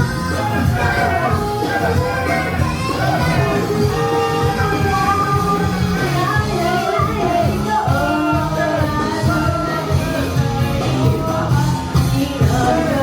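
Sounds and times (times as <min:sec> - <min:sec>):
female group singing live: 0:00.0 - 0:13.0
up-tempo pop track: 0:00.0 - 0:13.0.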